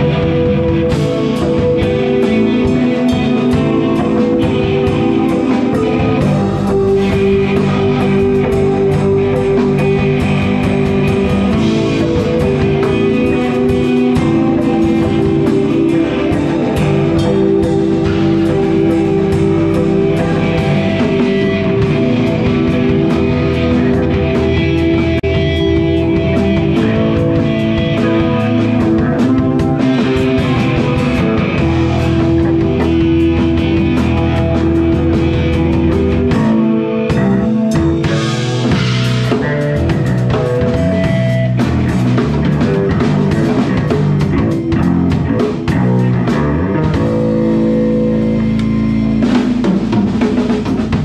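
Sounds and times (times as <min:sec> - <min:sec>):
drum kit beat: 0:00.0 - 0:51.0
electric guitars: 0:00.0 - 0:51.0.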